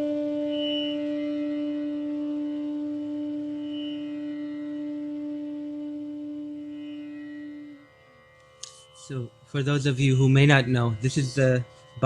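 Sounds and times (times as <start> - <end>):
bamboo flute long low note: 0.0 - 11.7.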